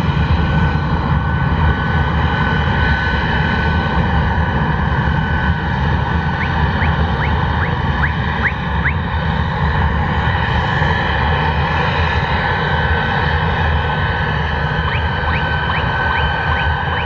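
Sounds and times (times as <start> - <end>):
jet engine whine and rumble: 0.0 - 17.0.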